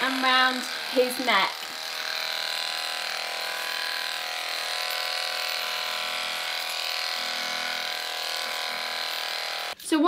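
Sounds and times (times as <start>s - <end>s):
electric dog clippers buzzing: 0.0s - 9.8s.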